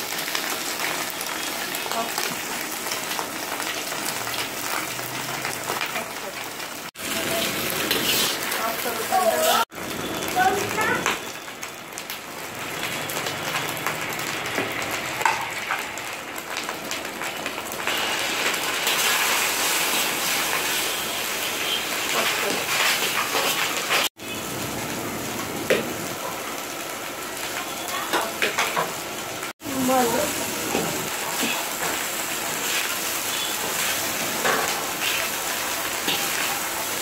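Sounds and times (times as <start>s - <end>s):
vegetables sizzling in a wok: 0.0s - 37.0s.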